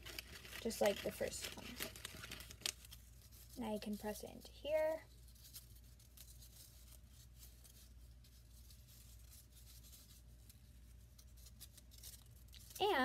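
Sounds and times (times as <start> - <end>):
paper strips rustling: 0.0 - 13.0.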